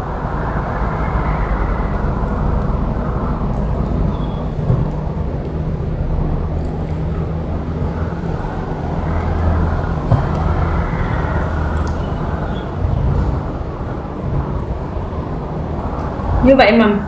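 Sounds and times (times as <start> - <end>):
low background rumble: 0.0 - 17.0
low hum: 0.0 - 17.0.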